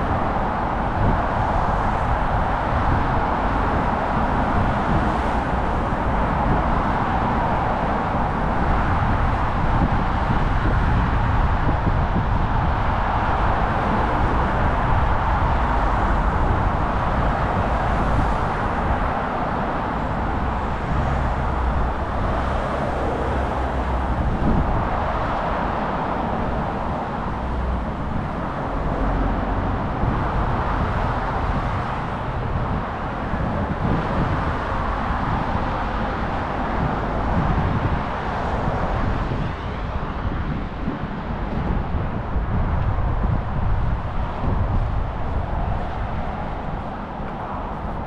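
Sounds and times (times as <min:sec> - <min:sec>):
cars passing on busy road: 0:00.0 - 0:48.0
wind rumbling on microphone: 0:00.0 - 0:48.0.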